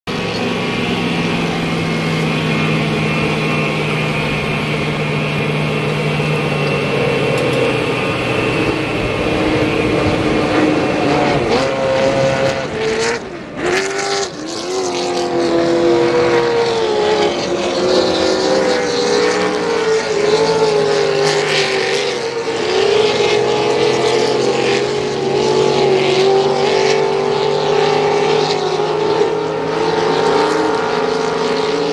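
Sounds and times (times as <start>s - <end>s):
race boat engines droning: 0.0s - 31.9s.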